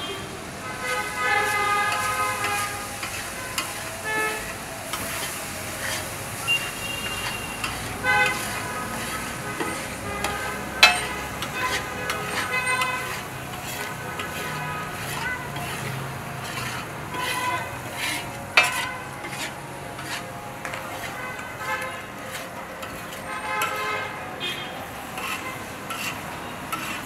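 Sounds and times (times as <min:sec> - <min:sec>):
car horns tooting: 0:00.0 - 0:27.0
street traffic: 0:00.0 - 0:27.0
meat sizzling: 0:00.5 - 0:23.8, 0:24.8 - 0:27.0
metal spatula scraping griddle: 0:00.8 - 0:27.0.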